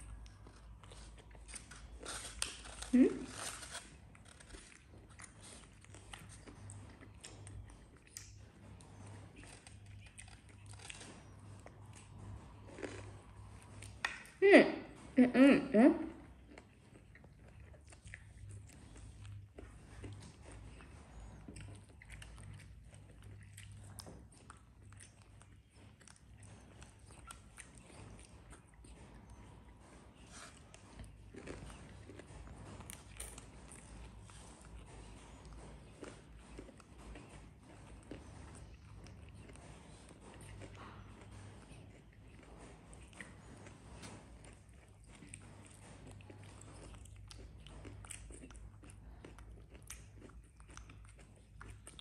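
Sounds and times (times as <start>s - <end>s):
faint chewing: 0.0s - 52.0s
low steady hum: 0.0s - 52.0s.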